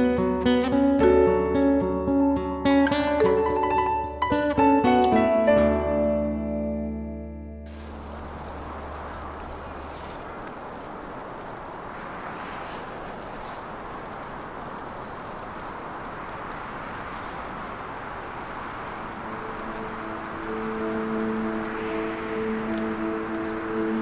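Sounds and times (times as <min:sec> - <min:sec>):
outdoor ambience hiss: 0:00.0 - 0:24.0.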